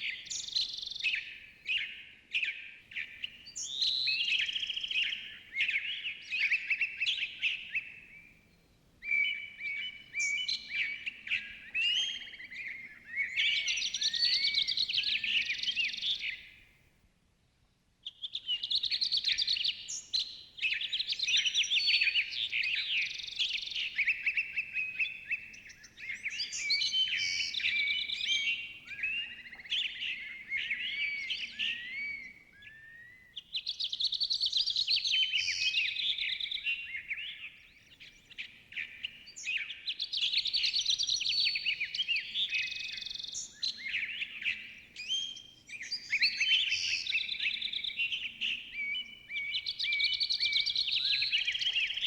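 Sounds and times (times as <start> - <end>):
birds singing and chirping: 0.0 - 8.4, 9.0 - 16.5, 18.4 - 52.0.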